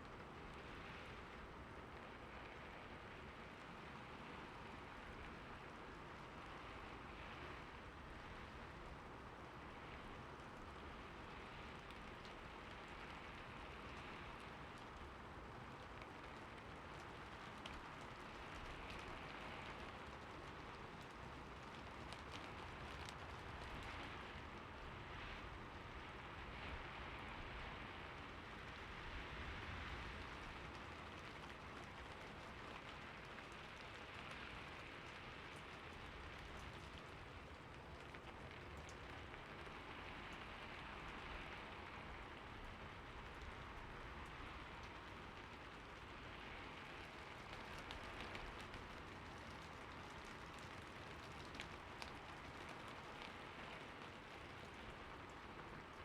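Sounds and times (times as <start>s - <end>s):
rain on a roof: 0.0s - 56.0s.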